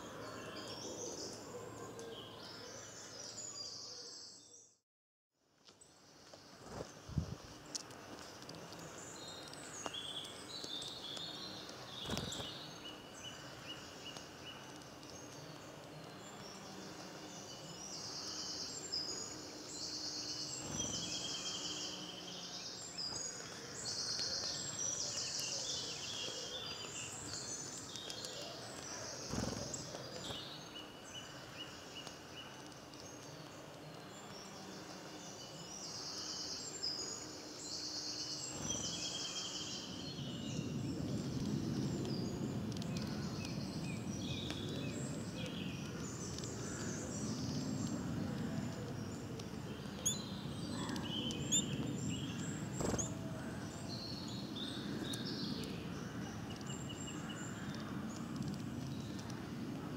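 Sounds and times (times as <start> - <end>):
songbirds singing trills: 0.0 - 4.8, 5.7 - 59.9.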